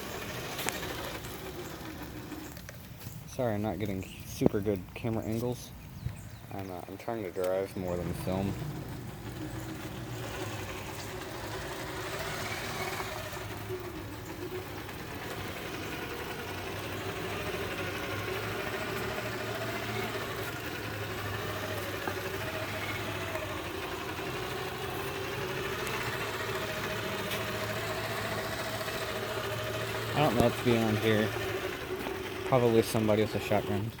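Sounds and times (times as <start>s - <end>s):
rc car electric motor whining: 0.0s - 34.0s.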